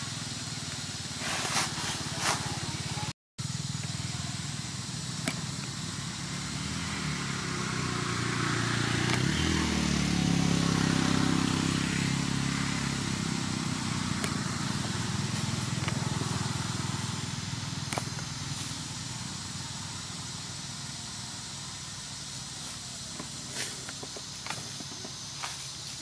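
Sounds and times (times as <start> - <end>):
vehicle engine passing by: 3.9 - 26.0.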